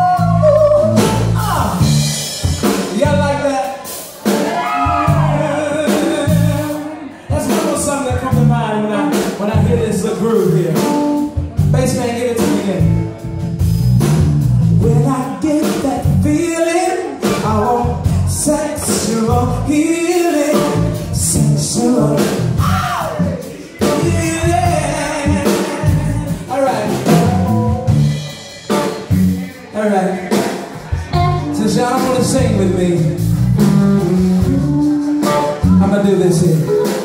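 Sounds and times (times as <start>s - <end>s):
man singing: 0.0s - 13.2s, 14.8s - 37.0s
live band playing: 0.0s - 37.0s.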